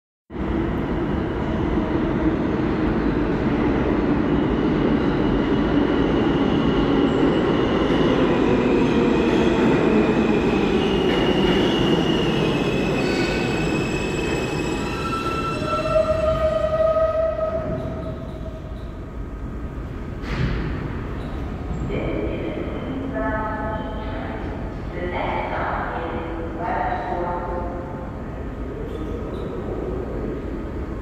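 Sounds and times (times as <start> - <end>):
train wheels rumbling on rail: 0.4 - 26.6.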